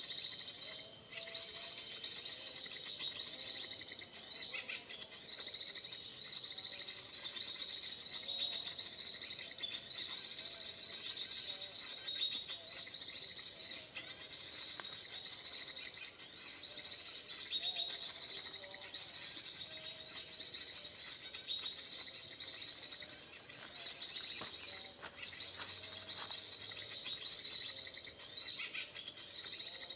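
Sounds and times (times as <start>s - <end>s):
thin steady high tone: 0.0s - 29.9s.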